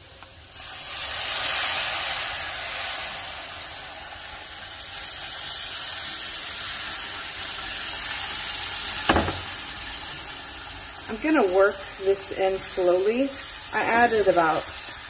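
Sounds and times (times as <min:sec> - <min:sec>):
broth sizzling in hot pan: 0:00.0 - 0:15.0.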